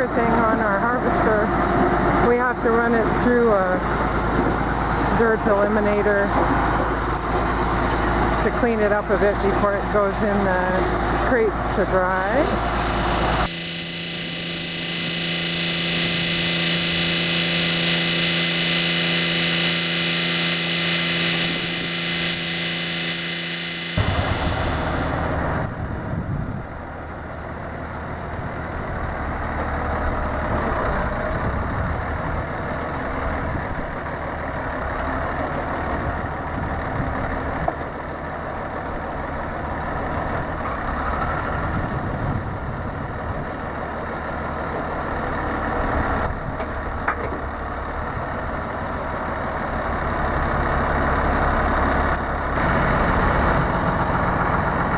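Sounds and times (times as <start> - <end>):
farm machinery engine: 0.0 - 54.9.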